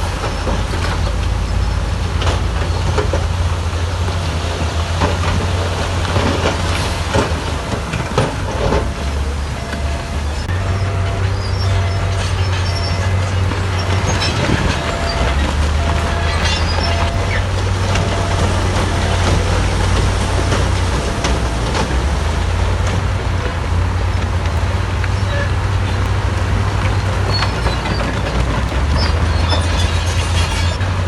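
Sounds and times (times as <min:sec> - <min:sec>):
diesel engine drone: 0:00.0 - 0:31.0
knocks and clanks: 0:00.0 - 0:31.0.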